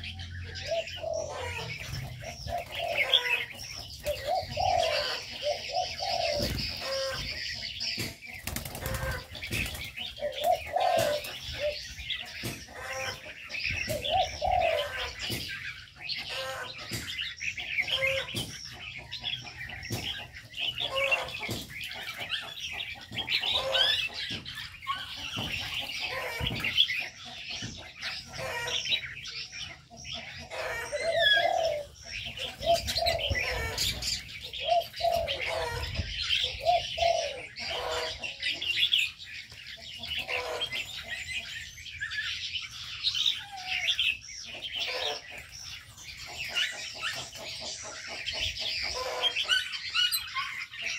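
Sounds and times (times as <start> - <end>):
doves cooing: 0.0 - 39.2, 39.9 - 50.9
small birds chirping: 0.0 - 50.9.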